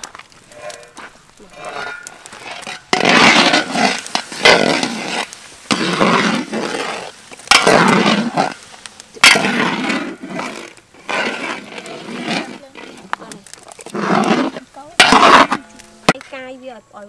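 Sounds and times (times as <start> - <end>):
loud sizzling in a wok: 0.0 - 16.3.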